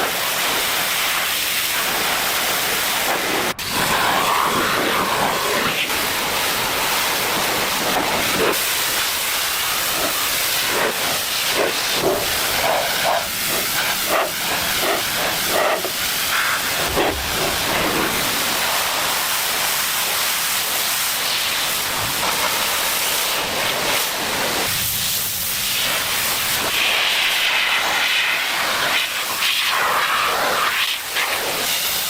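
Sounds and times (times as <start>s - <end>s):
loud steady hiss: 0.0s - 32.0s.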